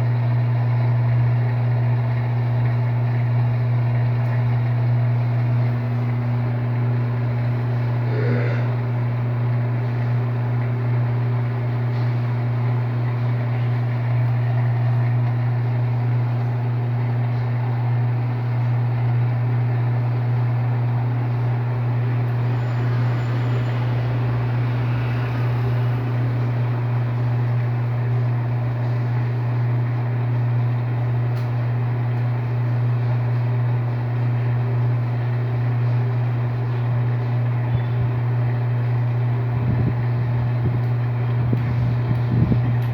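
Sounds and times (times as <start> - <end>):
washing machine spinning: 0.0 - 42.9.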